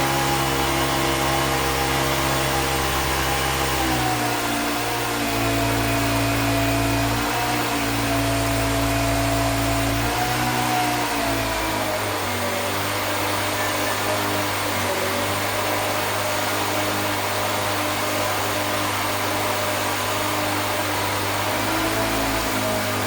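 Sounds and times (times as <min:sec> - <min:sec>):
electric motor whirring: 0:00.0 - 0:23.0.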